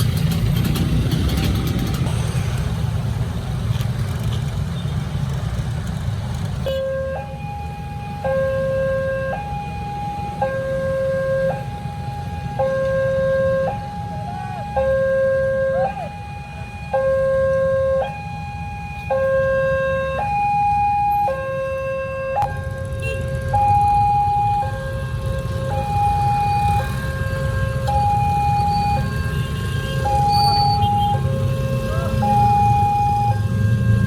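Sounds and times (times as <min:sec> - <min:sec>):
road traffic rumble: 0:00.0 - 0:34.0
two-tone hi-lo siren: 0:06.7 - 0:34.0.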